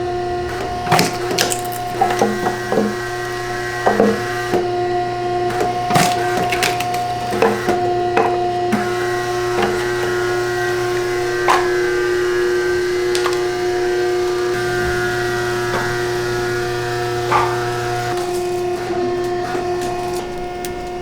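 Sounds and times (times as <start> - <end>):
steady machine hum: 0.0 - 21.0
knocks and clatter: 0.4 - 4.8, 5.4 - 21.0.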